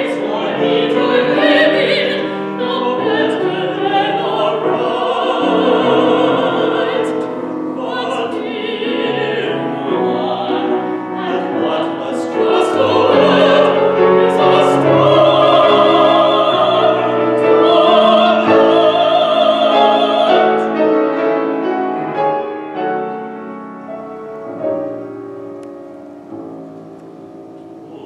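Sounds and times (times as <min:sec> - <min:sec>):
classical vocal duet: 0:00.0 - 0:28.0
piano accompaniment: 0:00.0 - 0:28.0.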